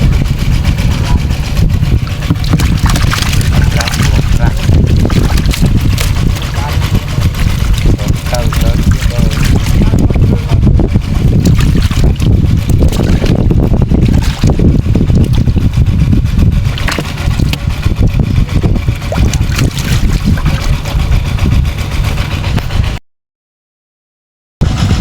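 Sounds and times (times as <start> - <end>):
engine-driven water pump running: 0.0 - 23.0, 24.6 - 25.0
wind buffeting microphone: 0.0 - 23.0, 24.6 - 25.0.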